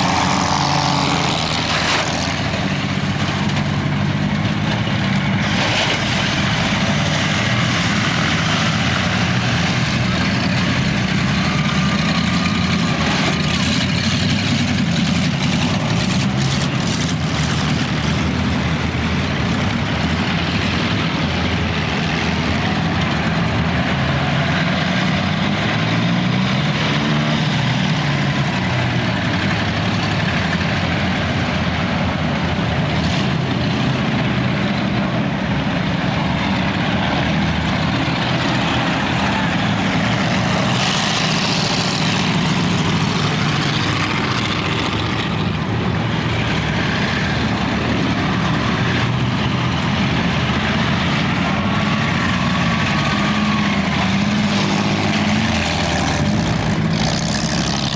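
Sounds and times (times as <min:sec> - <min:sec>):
car engines revving: 0:00.0 - 0:57.9.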